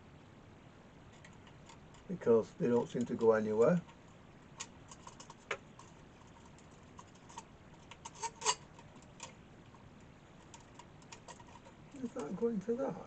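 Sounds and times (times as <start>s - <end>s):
light clicks and taps of tools: 1.1s - 12.5s.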